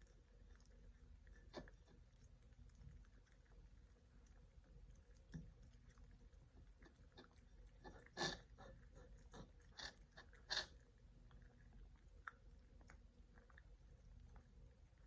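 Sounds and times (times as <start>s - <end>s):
cats chewing food: 0.0s - 15.0s.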